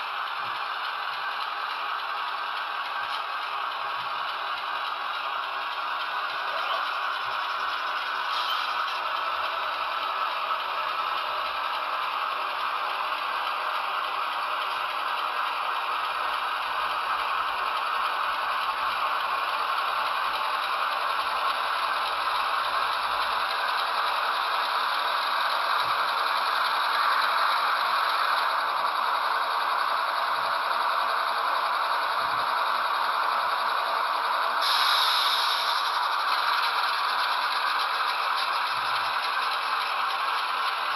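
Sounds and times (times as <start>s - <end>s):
model train rattling whir: 0.0s - 40.9s.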